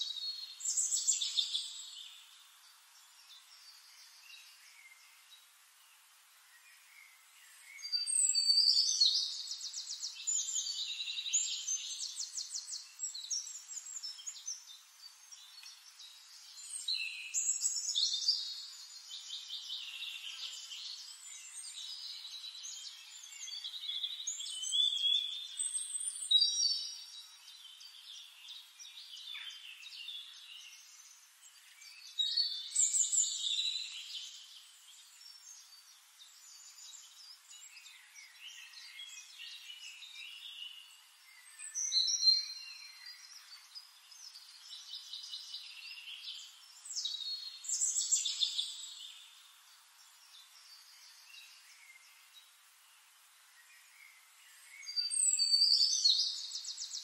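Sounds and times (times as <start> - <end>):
birds chirping and singing: 7.2 - 52.4, 53.6 - 57.0.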